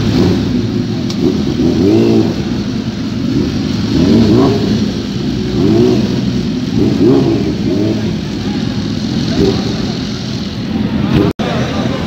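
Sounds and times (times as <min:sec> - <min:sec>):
motorcycle engine idling: 0:00.0 - 0:12.0
motorcycle engine revving: 0:00.0 - 0:12.0.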